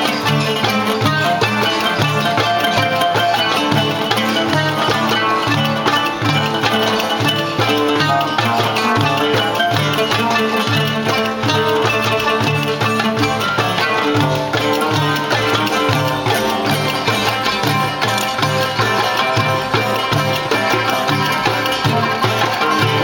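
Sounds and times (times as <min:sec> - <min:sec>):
plucked oud and qanun tune: 0:00.0 - 0:23.0.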